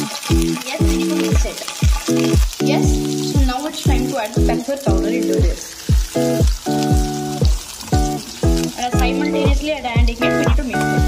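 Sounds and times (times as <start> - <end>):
background music with kick drum: 0.0 - 11.0
onions sizzling in oil: 0.0 - 11.0.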